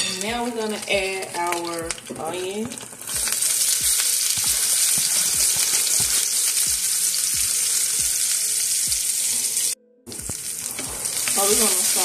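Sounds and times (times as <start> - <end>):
onion sizzling in a skillet: 0.0 - 12.0.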